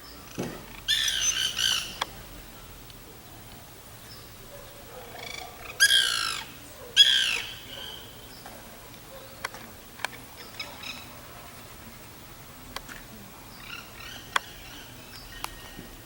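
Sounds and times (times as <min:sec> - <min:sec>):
woodpecker calls: 0:00.1 - 0:16.0.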